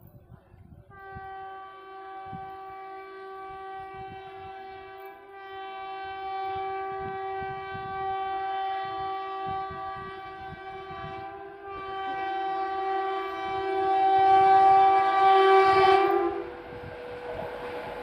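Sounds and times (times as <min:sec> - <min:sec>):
locomotive air horn: 0:00.9 - 0:18.0.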